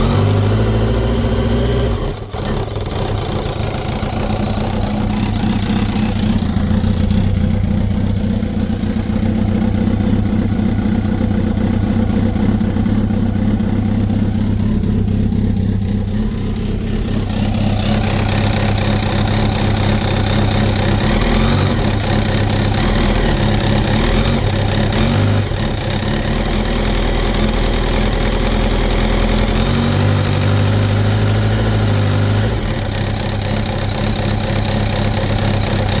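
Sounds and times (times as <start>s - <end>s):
engine knocking noise: 0.0s - 36.0s
motorcycle engine idling: 0.0s - 36.0s.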